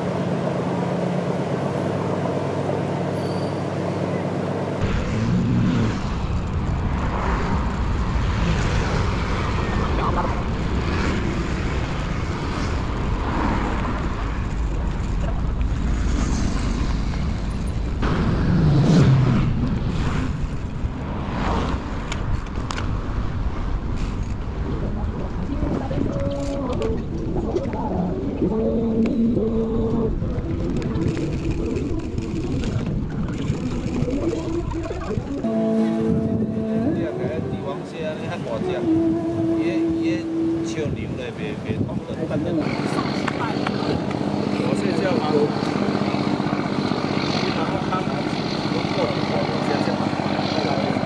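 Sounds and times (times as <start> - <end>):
ferry engine humming: 0.0 - 51.0
street traffic: 0.0 - 51.0
wind rumbling on microphone: 4.8 - 51.0.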